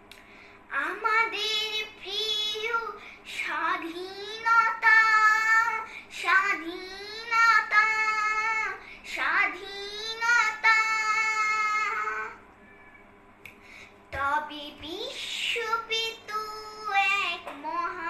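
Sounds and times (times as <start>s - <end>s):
girl singing unaccompanied: 0.7s - 12.4s, 14.1s - 18.0s.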